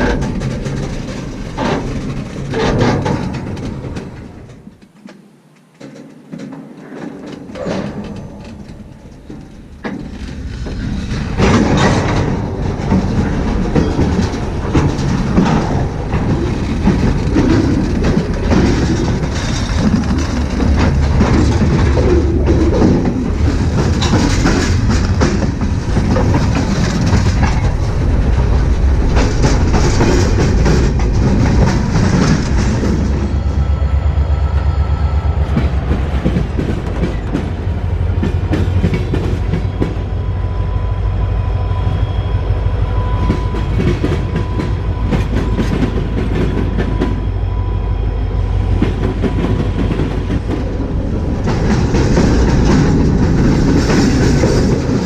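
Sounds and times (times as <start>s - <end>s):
freight train wheels clacking on rails: 0.0s - 55.0s.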